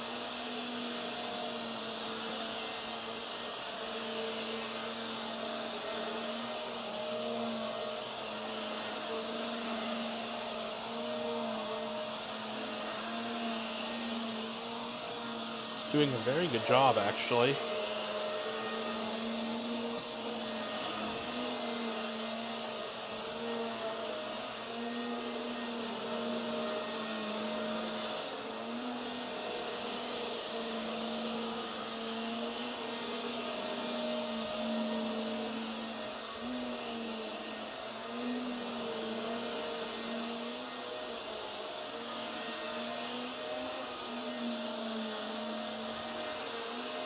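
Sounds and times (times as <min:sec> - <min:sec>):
upright vacuum cleaner running: 0:00.0 - 0:47.0.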